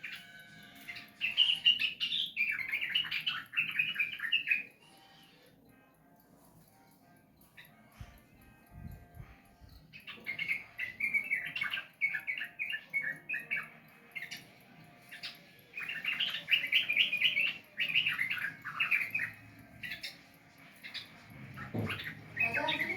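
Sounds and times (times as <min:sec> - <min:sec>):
bird chattering song: 0:00.0 - 0:05.4, 0:09.9 - 0:22.9.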